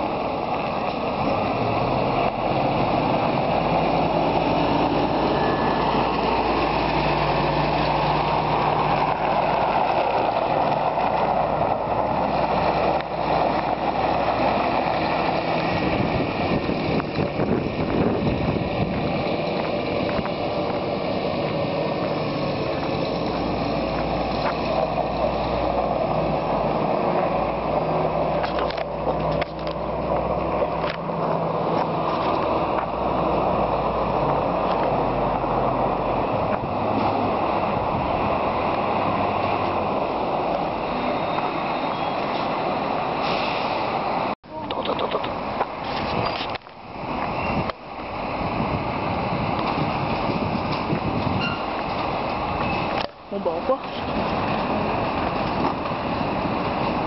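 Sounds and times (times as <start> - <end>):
steady rushing noise: 0.0 - 44.4, 45.2 - 57.0
truck diesel engine hum: 0.0 - 57.0.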